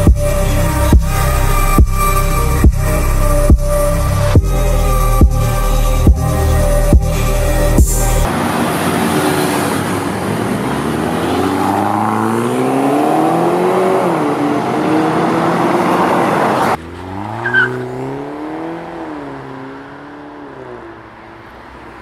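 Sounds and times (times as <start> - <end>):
car exhaust revving: 0.0 - 20.1.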